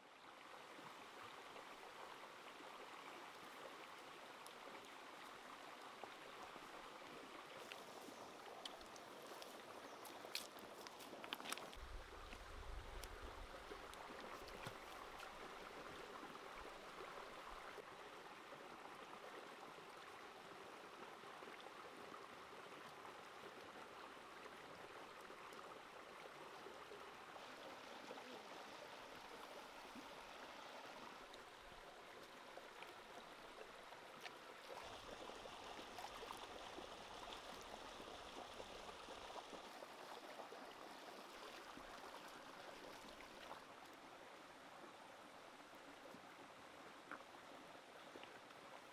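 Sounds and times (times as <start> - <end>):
creek running over stones: 0.0 - 48.9.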